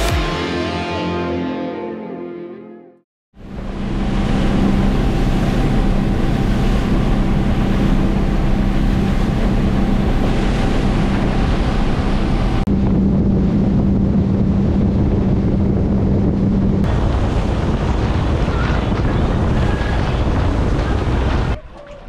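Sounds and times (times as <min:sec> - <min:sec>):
boat engine running: 0:03.4 - 0:22.0
wind on microphone: 0:03.4 - 0:22.0.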